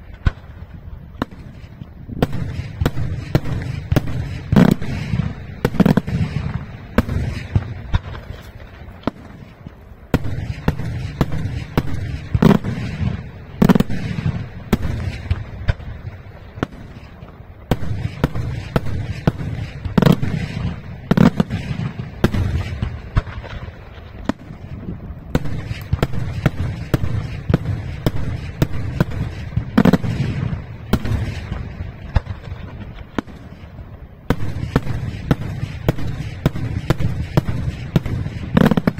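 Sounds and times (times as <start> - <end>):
fireworks bangs: 0.0 - 38.9
heavy firework booms: 0.0 - 38.9.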